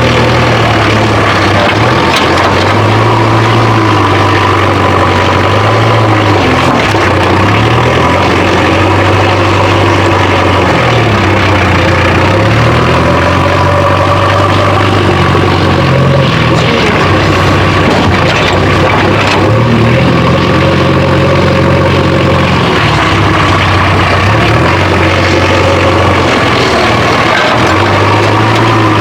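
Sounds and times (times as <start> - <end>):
backhoe loader engine running: 0.0 - 29.0.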